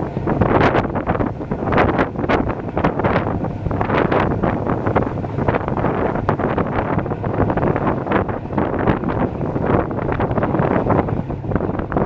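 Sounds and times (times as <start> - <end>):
boat running low: 0.0 - 12.0
wind buffeting microphone: 0.0 - 12.0.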